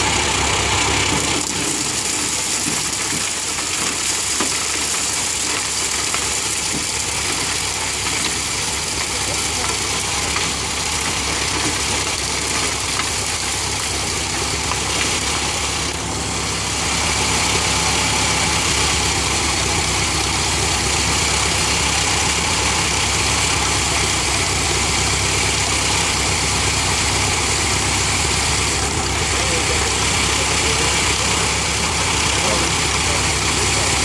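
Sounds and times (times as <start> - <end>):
corn sheller clattering: 0.0 - 34.0
tractor engine hum: 0.0 - 34.0.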